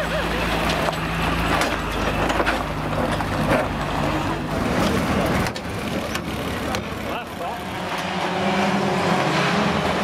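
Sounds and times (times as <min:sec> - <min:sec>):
truck engine running: 0:00.0 - 0:08.4.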